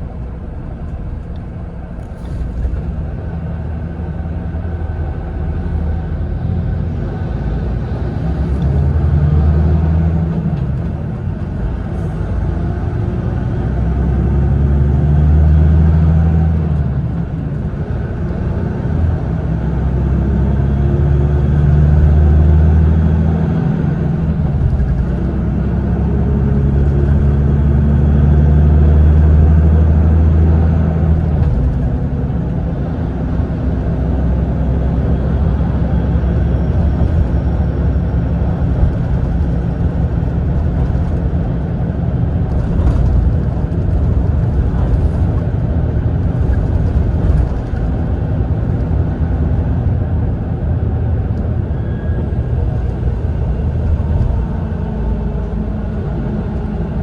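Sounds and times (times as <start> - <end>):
diesel engine drone: 0.0 - 57.0
road and tyre noise: 0.0 - 57.0.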